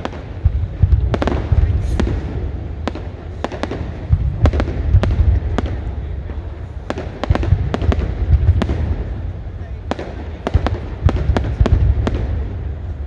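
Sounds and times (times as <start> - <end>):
fireworks cracks: 0.0 - 13.0
fireworks deep rumble: 0.0 - 13.0.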